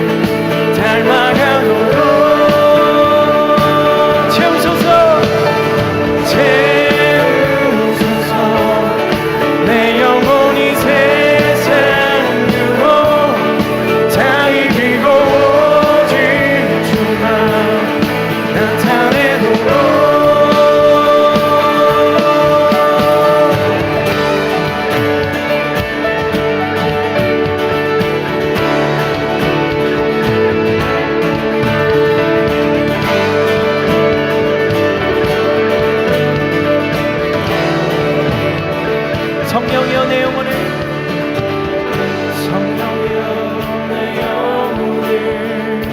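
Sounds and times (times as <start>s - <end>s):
person singing melody: 0.0s - 45.9s
worship band with guitar: 0.0s - 45.9s.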